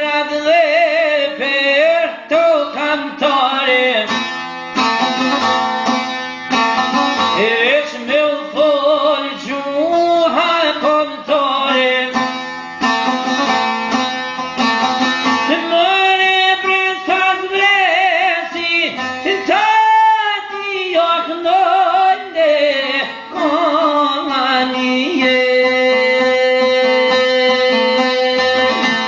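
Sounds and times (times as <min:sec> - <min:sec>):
man singing folk song: 0:00.0 - 0:13.6, 0:14.6 - 0:29.0
plucked lute strings: 0:00.0 - 0:29.0.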